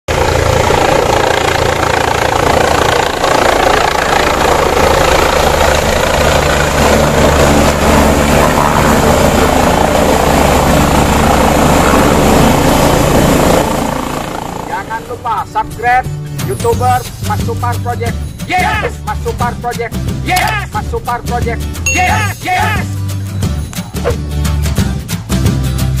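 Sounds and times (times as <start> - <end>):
helicopter rotor and engine: 0.1 - 22.8.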